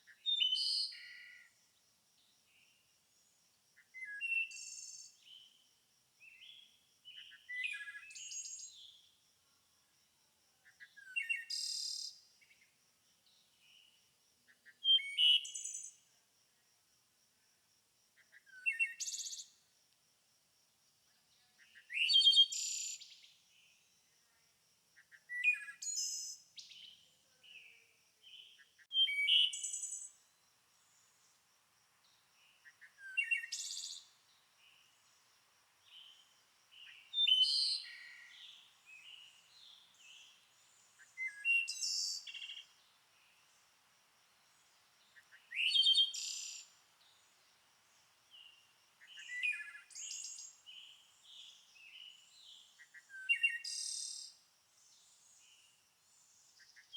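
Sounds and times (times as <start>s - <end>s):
songbird singing: 0.0s - 9.2s, 10.5s - 16.2s, 18.2s - 19.7s, 21.1s - 56.9s.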